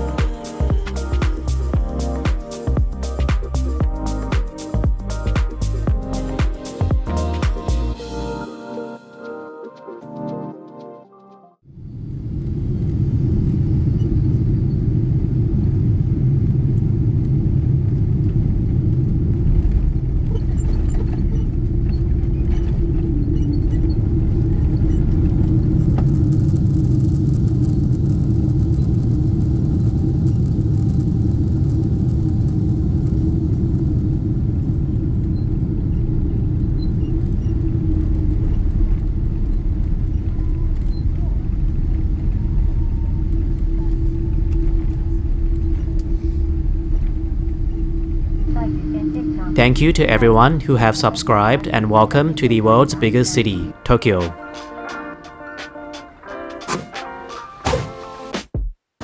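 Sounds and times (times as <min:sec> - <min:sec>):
airplane cabin rumble: 0:00.0 - 0:08.4, 0:11.7 - 0:57.5.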